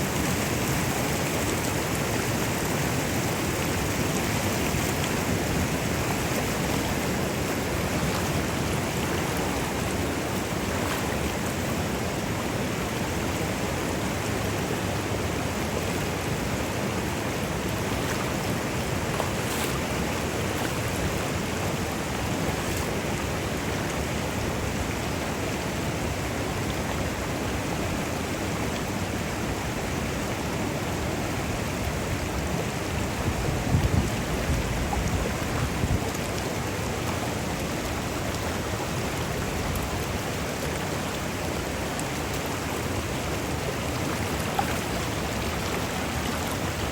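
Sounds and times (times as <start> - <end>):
river rushing over waterfalls: 0.0 - 46.9.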